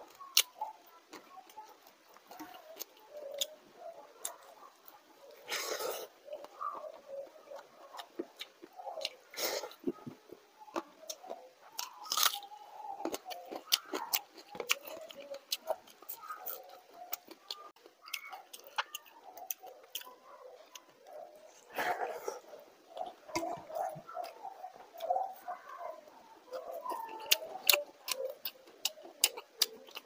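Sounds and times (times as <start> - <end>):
chewing and lip-smacking: 0.0 - 30.0.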